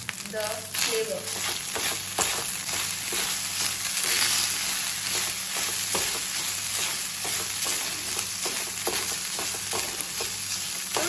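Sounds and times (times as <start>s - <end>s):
rice sizzling in frying pan: 0.0s - 11.0s
spatula scraping and tapping pan: 1.3s - 11.0s.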